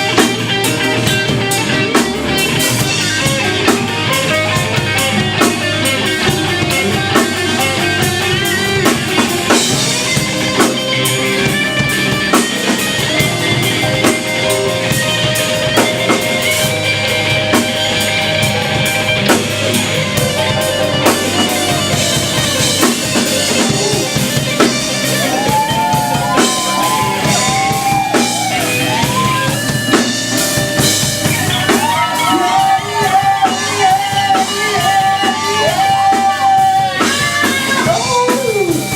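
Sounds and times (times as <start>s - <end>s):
drum kit beat: 0.0s - 38.9s
lead guitar with bending notes: 0.0s - 38.9s
live rock band playing: 0.0s - 38.9s.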